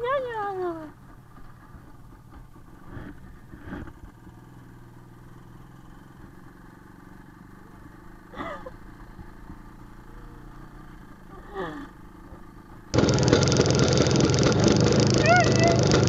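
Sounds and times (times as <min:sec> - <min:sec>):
two-stroke motorcycle engine idling: 0:00.0 - 0:16.0.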